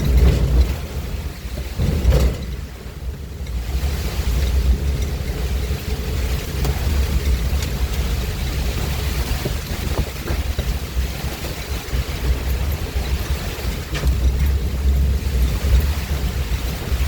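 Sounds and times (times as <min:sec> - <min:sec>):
heavy rain hissing: 0:00.0 - 0:17.0
wind buffeting microphone: 0:00.0 - 0:17.0.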